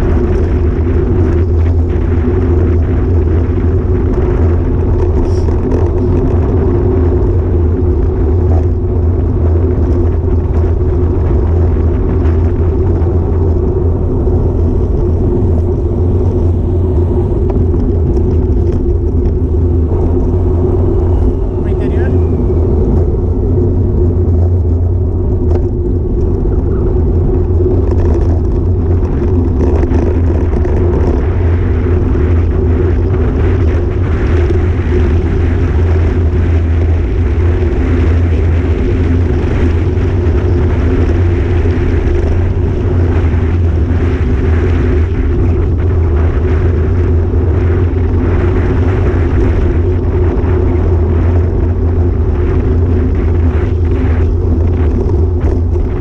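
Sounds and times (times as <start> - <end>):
bike tyre road noise: 0.0 - 56.0
wind rumble on microphone: 0.0 - 56.0.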